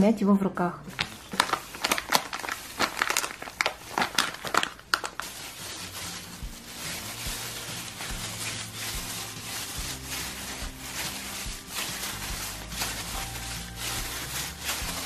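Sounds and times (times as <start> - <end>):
plastic gloves crinkling: 0.9 - 15.0.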